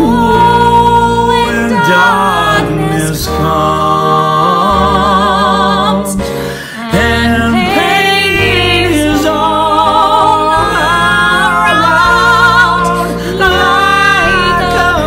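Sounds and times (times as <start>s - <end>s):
man and woman singing duet: 0.0s - 15.0s.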